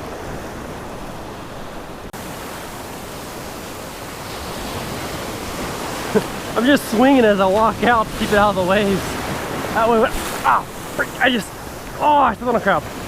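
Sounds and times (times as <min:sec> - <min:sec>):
surf waves breaking: 0:00.0 - 0:13.0.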